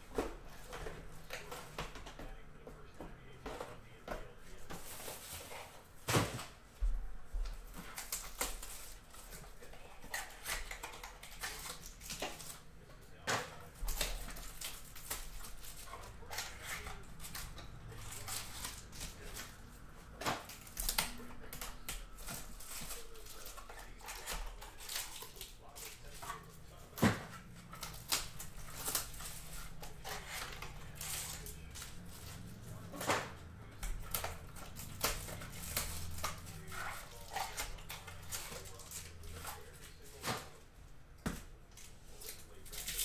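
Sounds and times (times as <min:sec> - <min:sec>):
foil wrappers crinkling and tearing: 0:00.2 - 0:06.6, 0:07.5 - 0:40.7, 0:41.7 - 0:43.0
cards being handled: 0:07.6 - 0:43.0.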